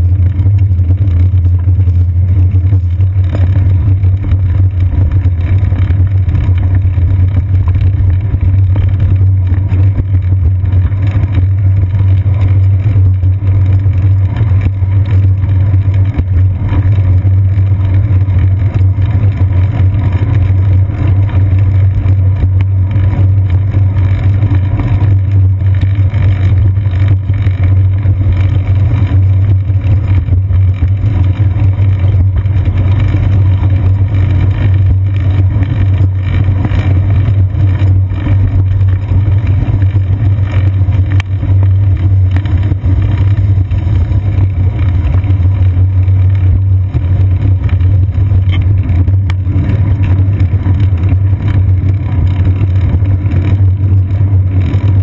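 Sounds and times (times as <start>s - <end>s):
bicycle rolling over pavement: 0.0s - 55.0s.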